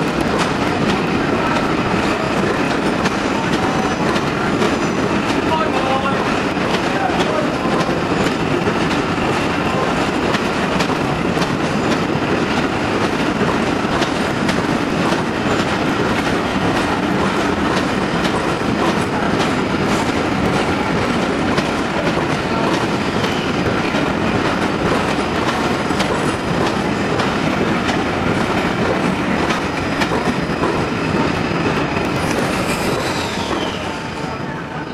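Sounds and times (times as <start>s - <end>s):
train wheels clacking on rails: 0.0s - 34.9s.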